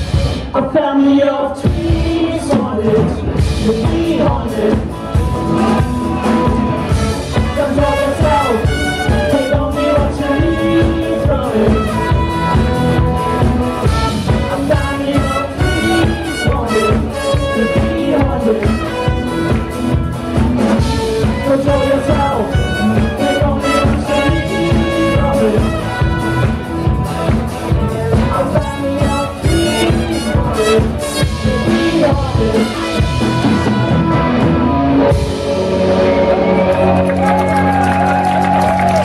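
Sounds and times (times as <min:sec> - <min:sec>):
drum kit beat: 0:00.0 - 0:00.7, 0:01.6 - 0:39.0
electric guitars: 0:01.6 - 0:39.0
brass horns playing held line: 0:05.2 - 0:39.0.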